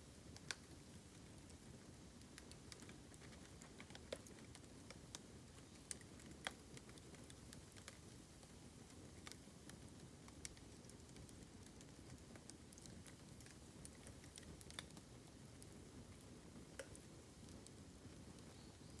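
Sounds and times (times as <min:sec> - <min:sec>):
burning bamboo crackling: 0:00.0 - 0:19.0.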